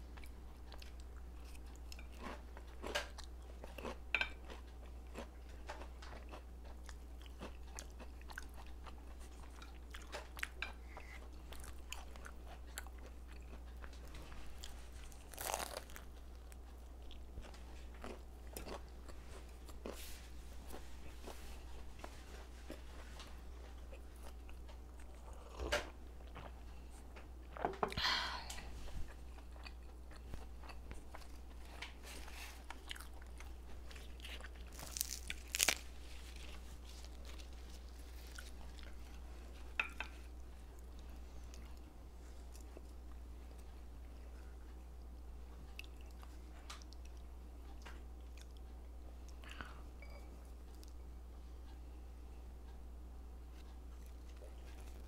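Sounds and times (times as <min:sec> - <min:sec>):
steady low hum: 0:00.0 - 0:55.0
person chewing food: 0:00.1 - 0:28.0, 0:28.6 - 0:51.1, 0:53.5 - 0:55.0.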